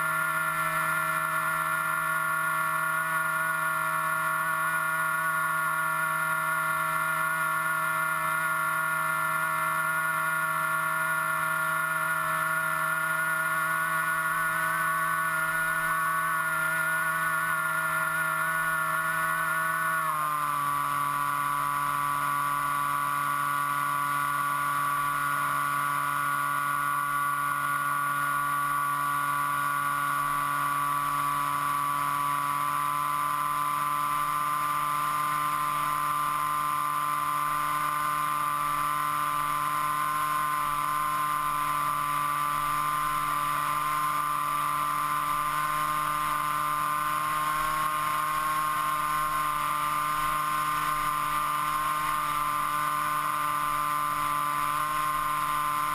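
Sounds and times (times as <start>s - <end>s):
model aircraft motor droning: 0.0s - 55.9s.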